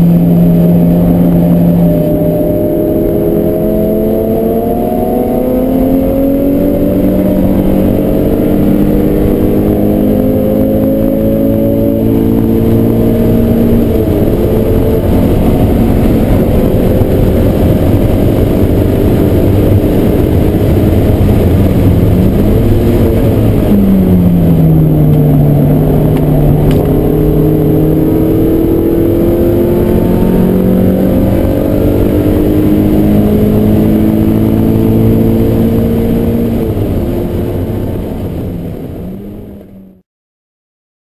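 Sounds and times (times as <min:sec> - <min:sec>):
car engine under load: 0:00.0 - 0:40.0
road and wind noise: 0:00.0 - 0:40.0.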